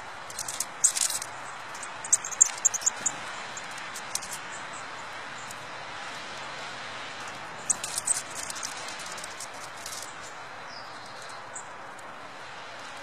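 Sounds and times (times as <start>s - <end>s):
songbirds chirping: 0.0s - 13.0s
steady background hiss: 0.0s - 13.0s.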